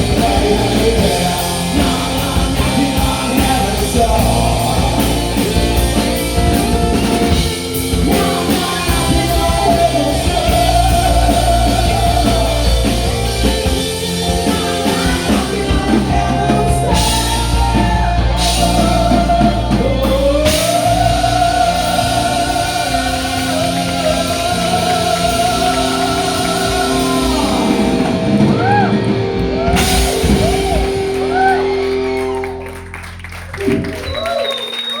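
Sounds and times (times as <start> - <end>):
rock band playing: 0.0 - 35.0.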